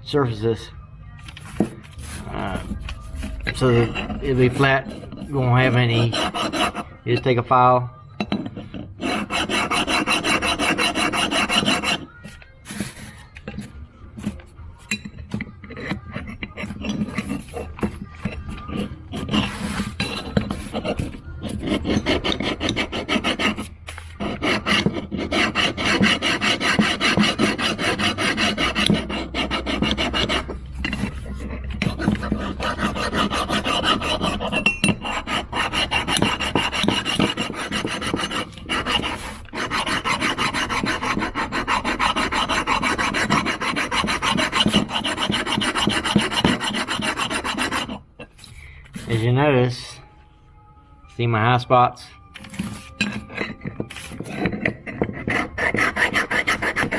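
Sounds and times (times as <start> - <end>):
hand file rasping on metal: 1.4 - 7.4, 8.5 - 14.4, 15.2 - 49.4, 52.4 - 56.9.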